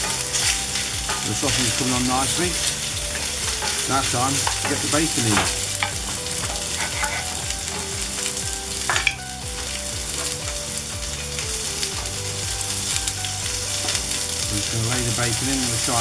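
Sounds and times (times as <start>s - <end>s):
meatballs sizzling in oil: 0.0s - 16.0s.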